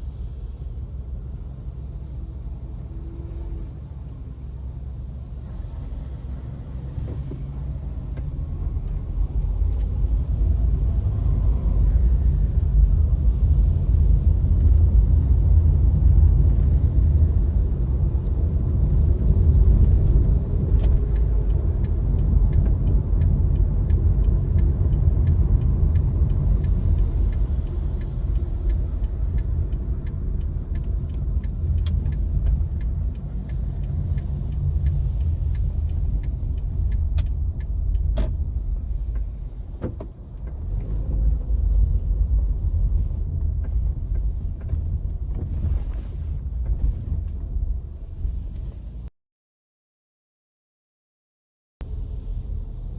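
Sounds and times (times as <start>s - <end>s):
road and engine rumble: 0.0s - 49.1s, 51.8s - 52.9s.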